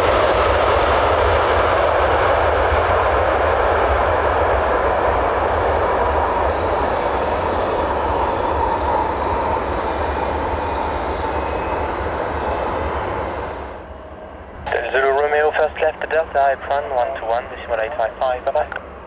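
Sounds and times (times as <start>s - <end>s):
jet engines rushing: 1.8s - 18.8s.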